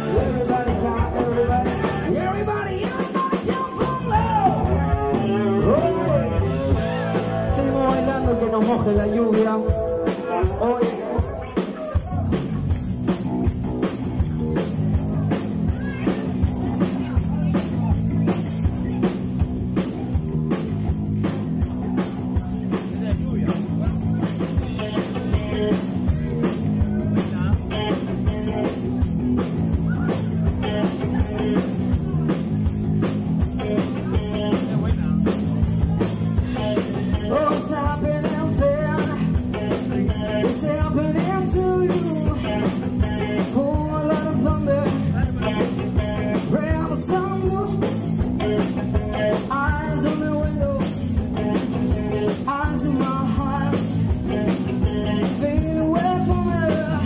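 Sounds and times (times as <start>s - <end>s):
drum kit driving beat: 0.0s - 57.0s
electric bass: 0.0s - 57.0s
electric guitar: 0.0s - 57.0s.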